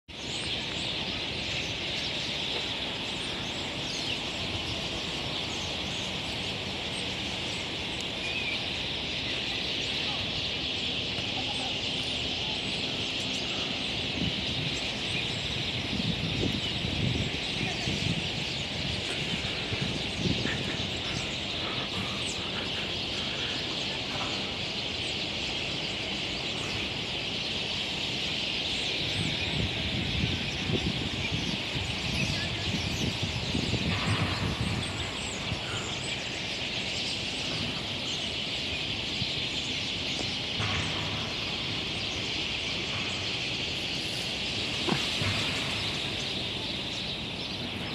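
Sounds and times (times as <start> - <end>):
starlings chattering: 0.1 - 47.9.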